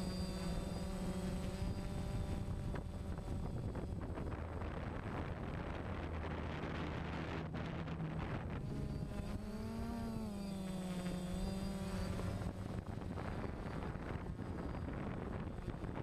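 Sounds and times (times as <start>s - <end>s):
drone propellers whirring: 0.0s - 16.0s
steady pitched motor hum: 0.0s - 16.0s
wind noise on microphone: 0.0s - 16.0s.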